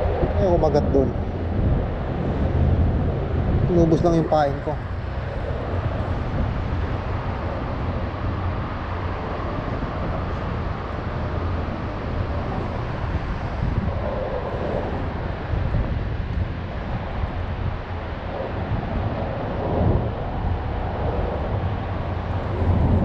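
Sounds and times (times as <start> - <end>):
low rumble: 0.0 - 23.0
wind noise on microphone: 0.0 - 23.0.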